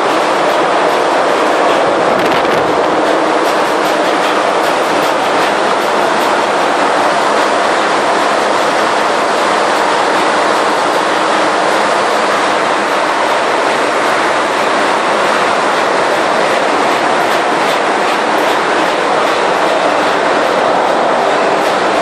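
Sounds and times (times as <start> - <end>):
engine room machinery din: 0.0 - 22.0.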